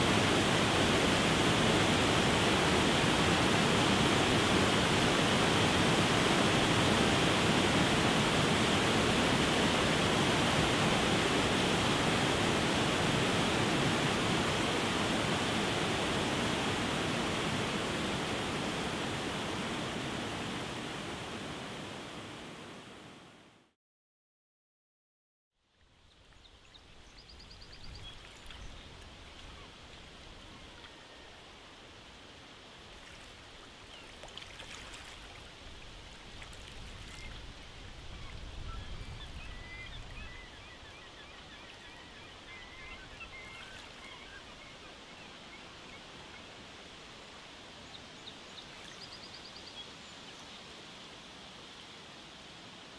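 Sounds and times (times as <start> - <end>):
running water rushing: 0.0 - 23.3, 27.8 - 52.9.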